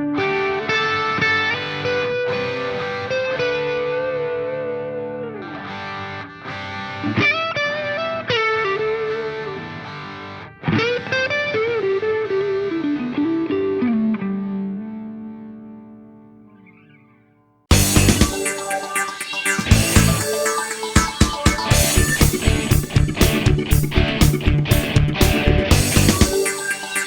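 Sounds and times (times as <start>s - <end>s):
distorted electric guitar melody: 0.0s - 17.1s, 17.7s - 27.0s.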